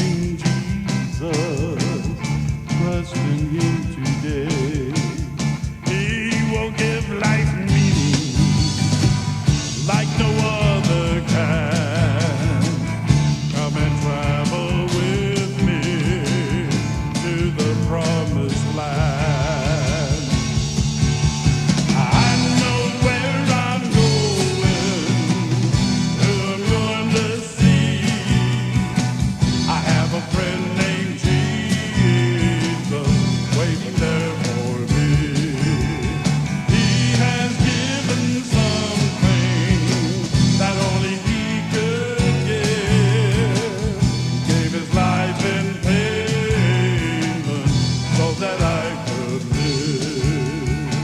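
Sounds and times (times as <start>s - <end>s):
band playing country-gospel: 0.0s - 51.0s
bass: 0.0s - 51.0s
steady drum beat: 0.0s - 51.0s.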